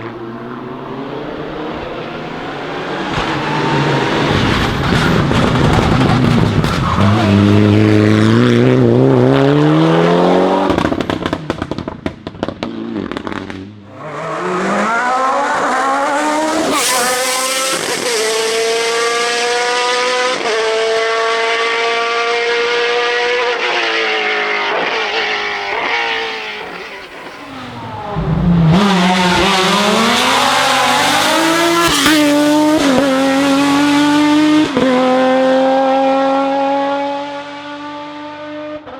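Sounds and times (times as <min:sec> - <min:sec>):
race cars accelerating: 0:00.0 - 0:38.9.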